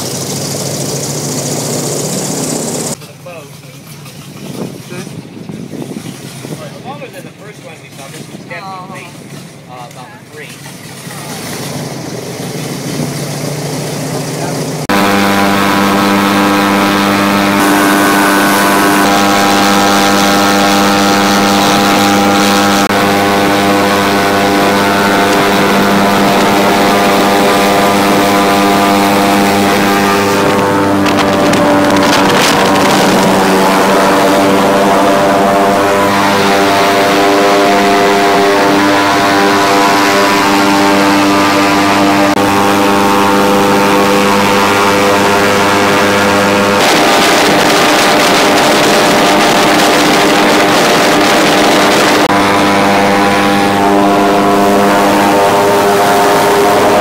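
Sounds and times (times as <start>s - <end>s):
airboat engine drone: 0.0s - 5.8s, 6.8s - 57.0s
wind noise burst: 4.3s - 9.4s, 11.9s - 57.0s.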